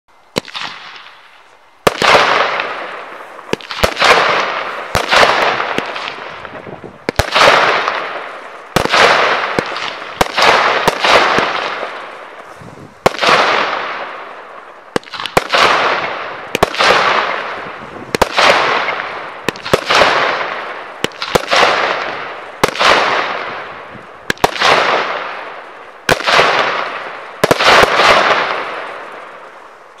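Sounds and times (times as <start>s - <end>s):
firework shots with crackling: 0.3s - 30.0s.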